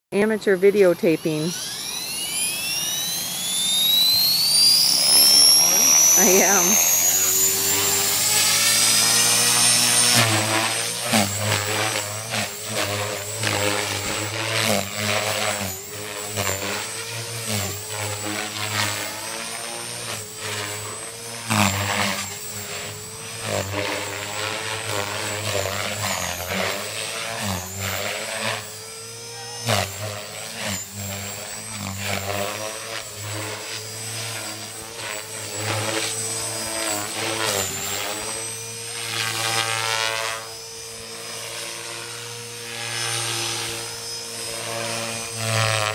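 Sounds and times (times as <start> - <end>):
steady very high whine: 0.1 - 45.9
rc helicopter rotor whine: 0.2 - 45.9.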